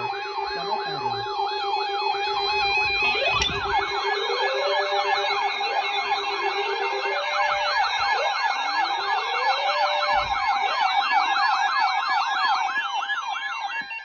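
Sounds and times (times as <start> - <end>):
wailing siren: 0.0 - 14.0
yelping siren warble: 0.0 - 14.0.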